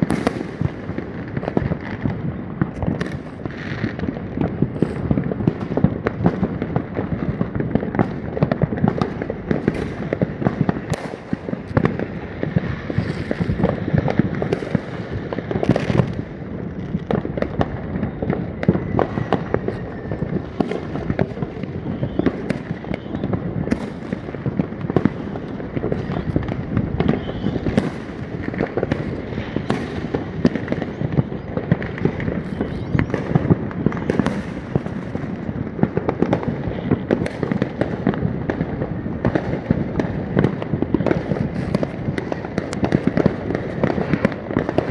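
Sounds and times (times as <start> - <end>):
fireworks crackling and popping: 0.0 - 44.9
loud firework reports: 0.0 - 44.9.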